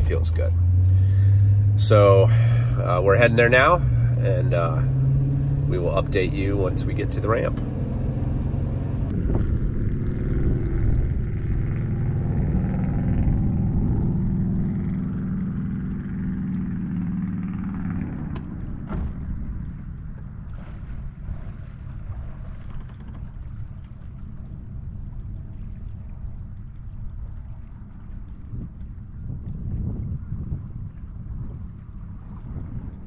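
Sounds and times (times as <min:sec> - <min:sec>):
outboard motor droning: 0:00.0 - 0:33.0.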